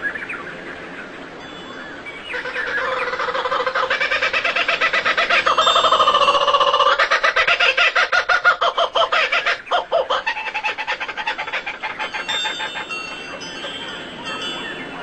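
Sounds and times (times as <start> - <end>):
bird harsh repeated calls: 2.3 - 15.0.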